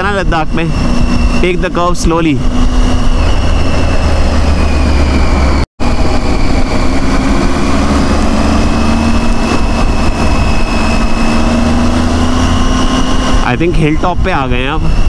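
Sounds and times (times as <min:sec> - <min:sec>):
low wind rumble: 0:00.0 - 0:15.0
motorcycle engine running: 0:00.0 - 0:15.0.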